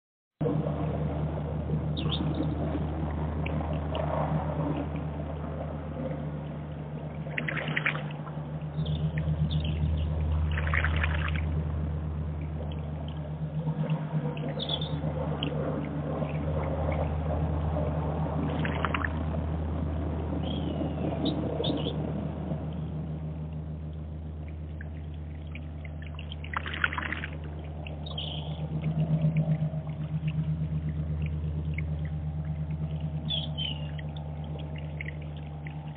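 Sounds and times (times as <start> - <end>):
low hum: 0.4 - 35.9
water trickling into a pond: 0.4 - 35.9.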